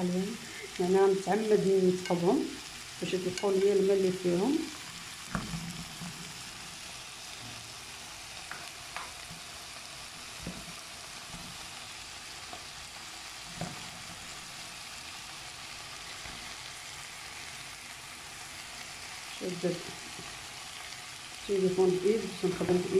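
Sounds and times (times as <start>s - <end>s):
sausages sizzling in a pan: 0.0s - 22.9s.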